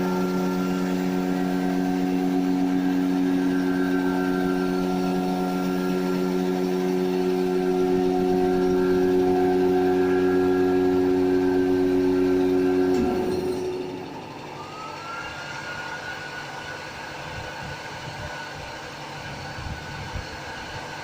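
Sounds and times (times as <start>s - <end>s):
vacuum forming machine humming: 0.0s - 21.0s.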